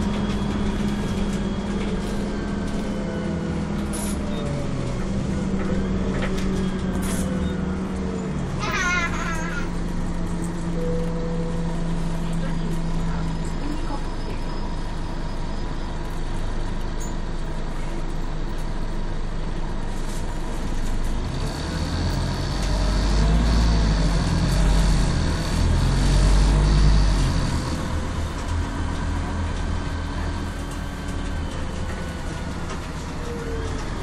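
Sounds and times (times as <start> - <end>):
bus engine running: 0.0 - 34.0.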